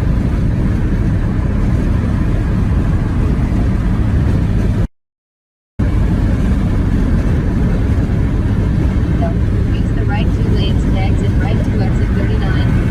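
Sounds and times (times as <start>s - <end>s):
car road and engine rumble: 0.0s - 4.9s, 5.8s - 12.9s.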